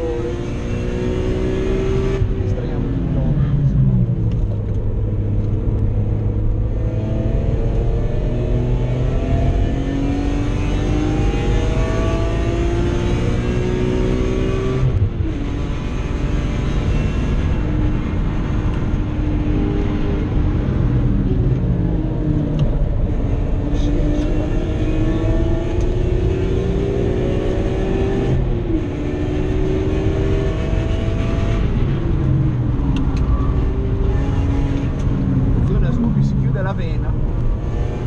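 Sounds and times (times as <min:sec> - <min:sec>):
car engine revving: 0:00.0 - 0:38.0
road and wind noise: 0:00.0 - 0:38.0.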